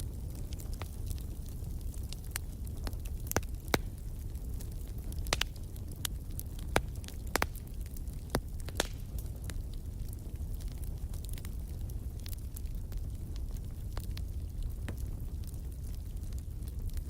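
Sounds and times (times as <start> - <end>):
low rumble of flames: 0.0 - 17.0
sharp pops of fire: 0.0 - 17.0
wood fire crackling: 0.0 - 17.0.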